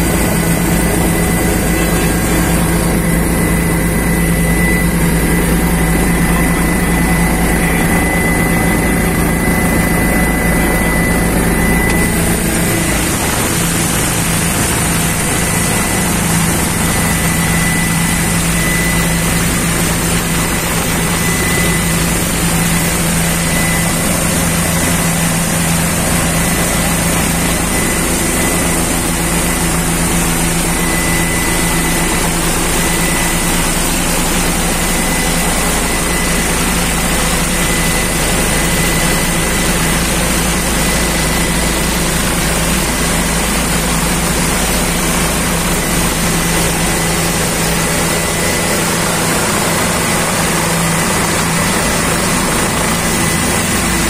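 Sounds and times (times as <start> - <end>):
helicopter engine and rotor drone: 0.0 - 54.0
thin high whine: 0.0 - 54.0.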